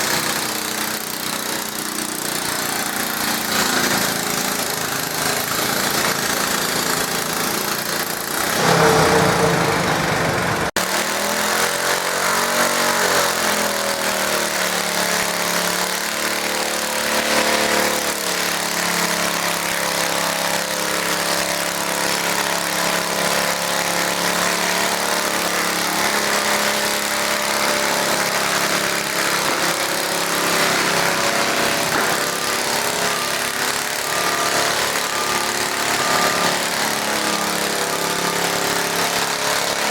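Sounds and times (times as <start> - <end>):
tractor engine running hard: 0.0 - 39.9.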